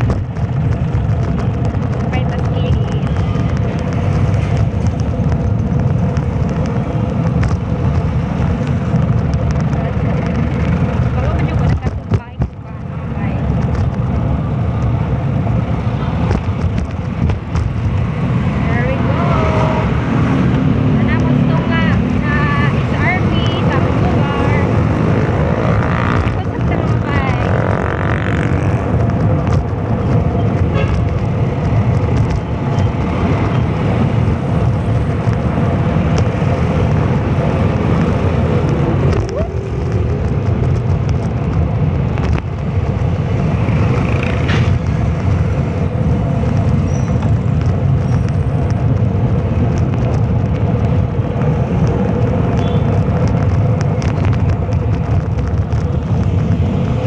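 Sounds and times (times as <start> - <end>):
vehicle engine running: 0.0 - 57.0
wind rumble on microphone: 0.0 - 57.0.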